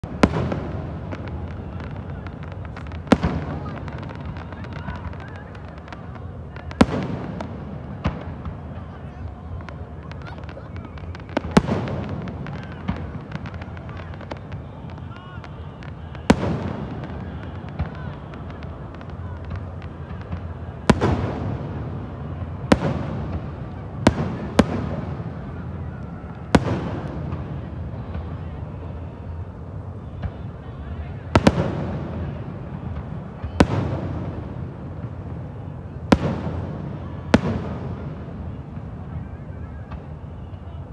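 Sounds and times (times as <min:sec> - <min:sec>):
fireworks booming: 0:00.0 - 0:40.8
fireworks crackling: 0:00.0 - 0:40.9
low background noise: 0:00.0 - 0:40.9.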